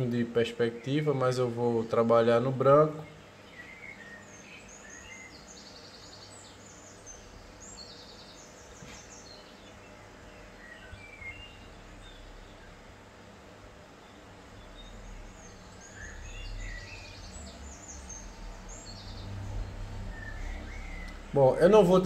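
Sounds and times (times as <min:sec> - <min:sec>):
faint birds chirping: 0:00.0 - 0:22.0
steady low hum: 0:00.0 - 0:22.0.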